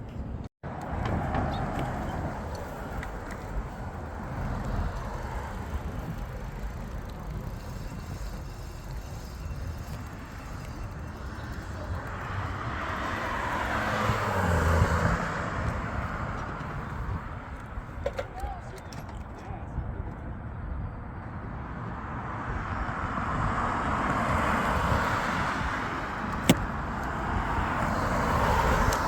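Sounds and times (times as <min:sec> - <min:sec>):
road and wind noise rumble: 0:00.0 - 0:29.0
car passing: 0:00.7 - 0:17.4, 0:22.0 - 0:29.0.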